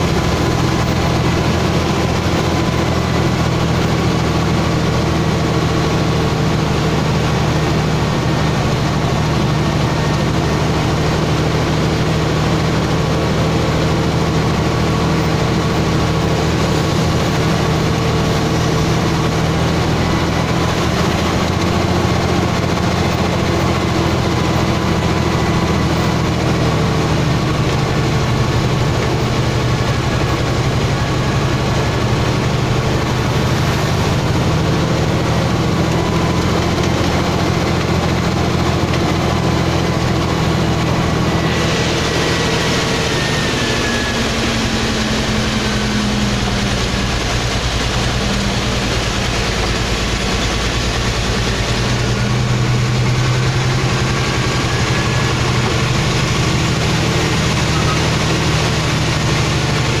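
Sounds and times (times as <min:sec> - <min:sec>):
truck diesel engine running: 0:00.0 - 1:00.0
tyre noise on wet road: 0:00.0 - 1:00.0.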